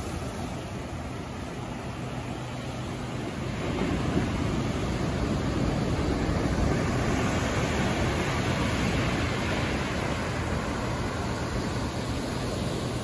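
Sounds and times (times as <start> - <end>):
ocean surf breaking on shore: 0.0 - 13.0.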